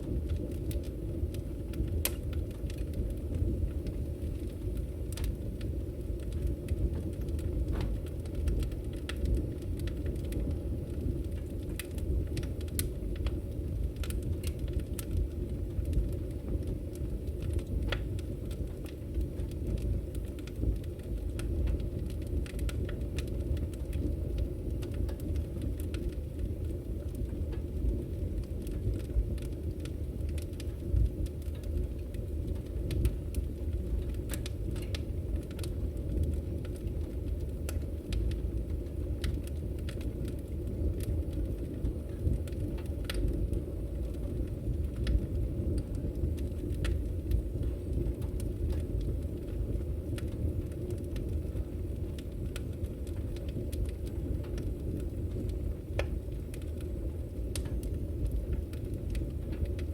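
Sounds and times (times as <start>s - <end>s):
fire rumbling: 0.0s - 59.9s
firewood crackling and popping: 0.0s - 59.9s.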